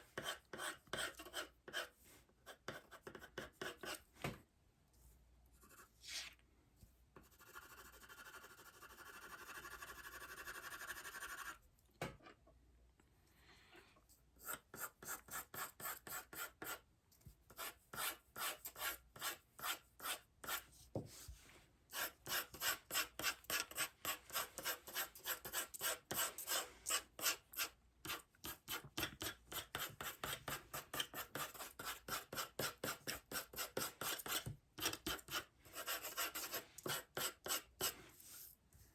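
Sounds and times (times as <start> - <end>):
pencil scratching on paper: 0.0 - 4.0, 5.6 - 6.3, 7.2 - 11.6, 14.4 - 16.8, 17.5 - 21.3, 21.9 - 38.4.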